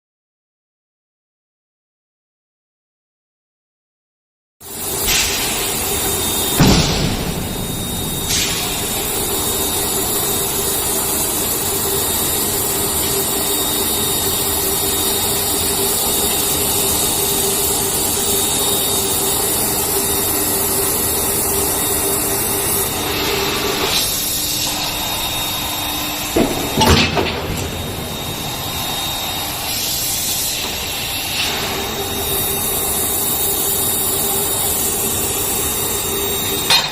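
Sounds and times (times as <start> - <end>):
machinery hum and hiss: 4.7 - 36.9.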